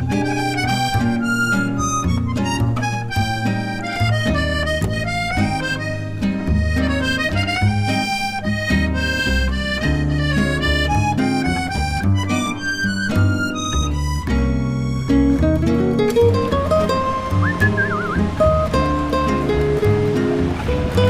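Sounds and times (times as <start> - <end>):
bass: 0.0 - 21.0
guitar: 0.0 - 21.0
reed instrument melody: 0.0 - 21.0.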